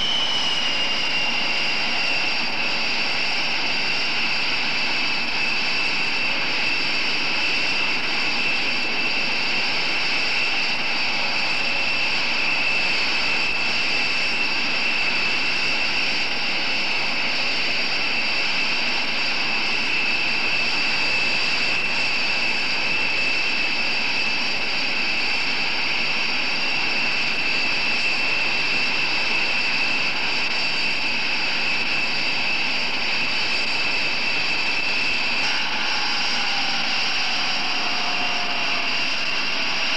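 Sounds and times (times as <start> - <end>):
jet turbine whine: 0.0 - 39.9.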